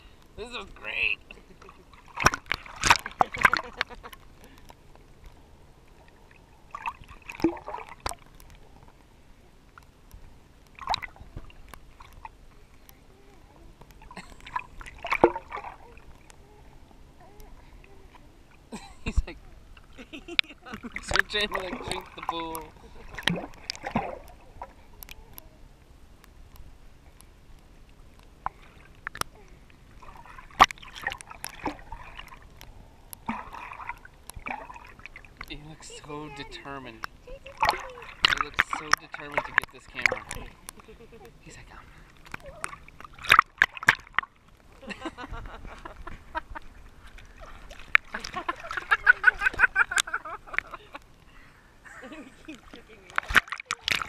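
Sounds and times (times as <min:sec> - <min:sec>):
pool water splashing: 0:00.0 - 0:54.0.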